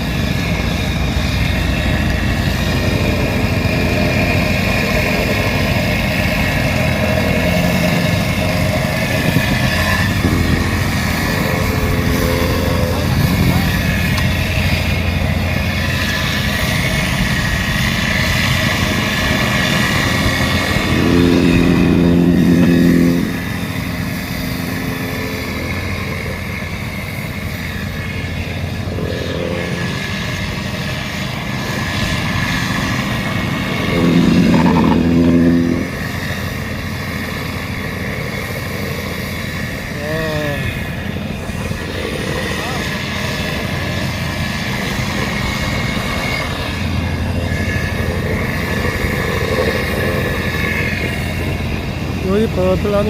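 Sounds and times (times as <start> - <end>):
louder steady drone: 0.0 - 53.0
paving machinery engines running: 0.0 - 53.0.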